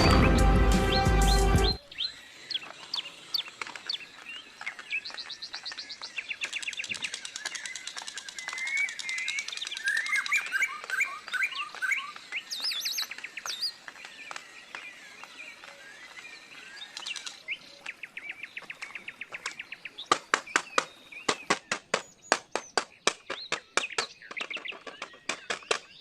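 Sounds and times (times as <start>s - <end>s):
songbirds chirping and singing: 0.0s - 26.0s.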